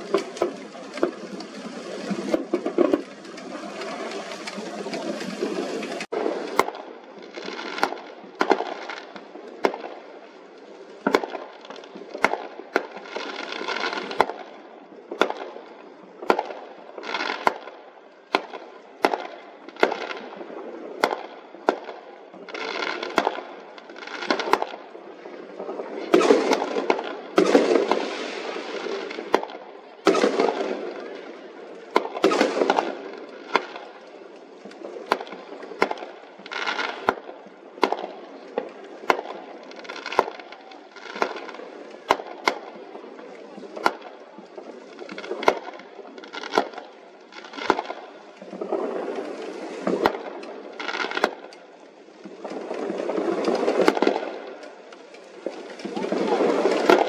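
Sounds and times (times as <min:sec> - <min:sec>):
fireworks bangs: 0:00.0 - 0:10.2, 0:11.0 - 0:15.6, 0:16.2 - 0:24.9, 0:25.5 - 0:57.0
fireworks crackling: 0:00.0 - 0:57.0.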